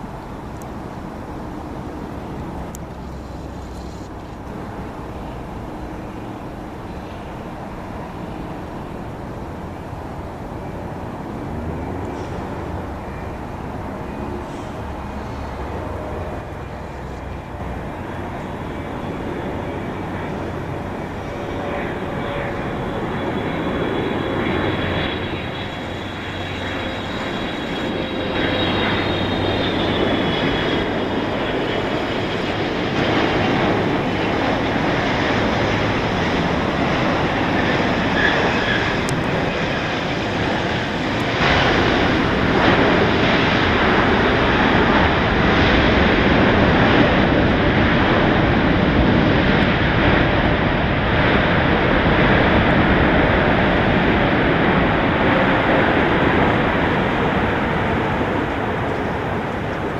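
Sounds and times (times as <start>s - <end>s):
jet engine roar: 0.0s - 59.9s.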